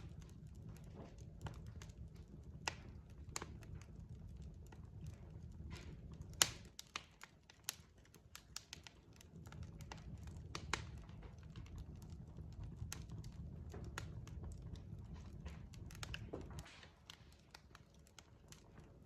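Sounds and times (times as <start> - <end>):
low rumble of flames: 0.0 - 19.0
wood fire pops and snaps: 0.0 - 19.0.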